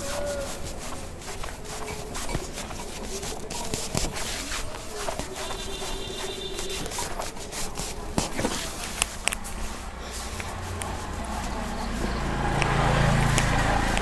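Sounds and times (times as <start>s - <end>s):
hands rustling over skin and hair: 0.0s - 14.0s.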